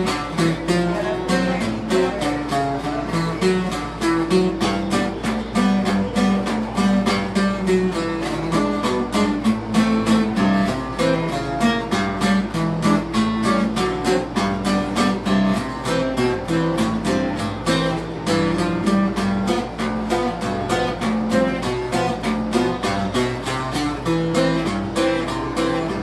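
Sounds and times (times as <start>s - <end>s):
guitar bass notes and strummed chords: 0.0s - 26.0s.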